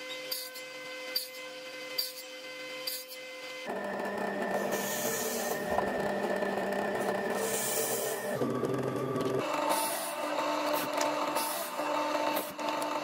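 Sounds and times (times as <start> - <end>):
table saw cutting wood: 0.0 - 13.0.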